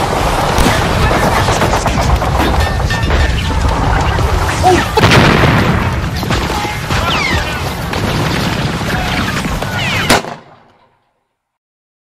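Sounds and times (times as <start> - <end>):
explosions: 0.0 - 10.9
gunfire: 0.5 - 10.9.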